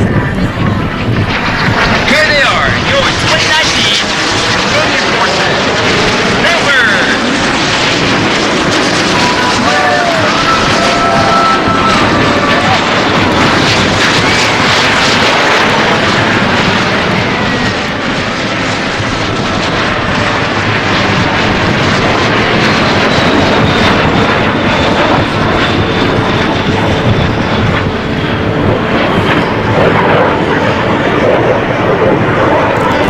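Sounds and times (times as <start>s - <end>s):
jet engines flying past: 0.0s - 33.0s.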